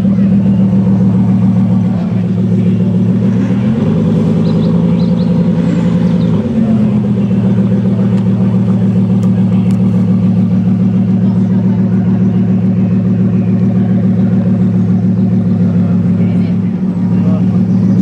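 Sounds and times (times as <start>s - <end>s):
car engine low drone: 0.0s - 18.0s.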